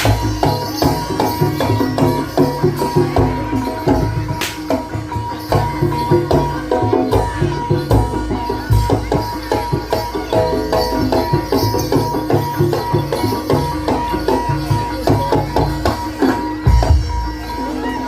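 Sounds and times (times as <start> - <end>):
hand drums: 0.0 - 18.0
tuned percussion ringing: 0.0 - 18.0.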